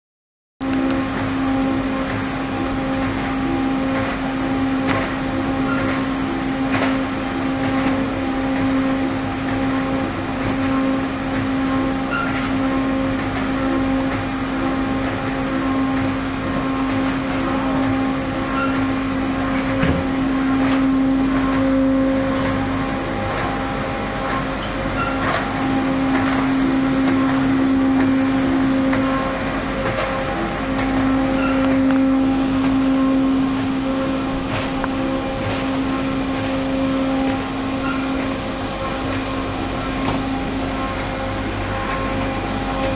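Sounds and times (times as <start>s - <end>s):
machine hum with constant tone: 0.6s - 42.9s.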